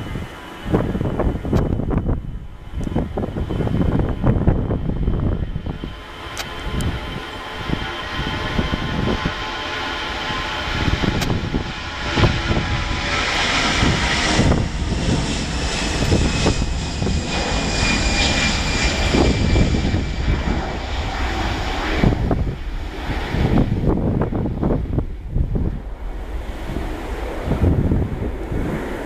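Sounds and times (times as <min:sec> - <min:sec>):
jet engine roar: 0:00.0 - 0:29.0
whining fan tones: 0:00.0 - 0:29.0.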